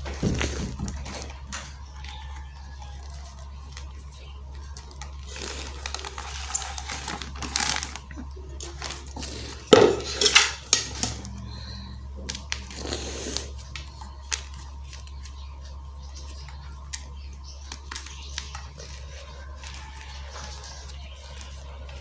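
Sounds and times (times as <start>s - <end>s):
chalk crunching and crackling: 0.0s - 10.4s, 12.3s - 22.0s
steady low hum: 0.0s - 22.0s.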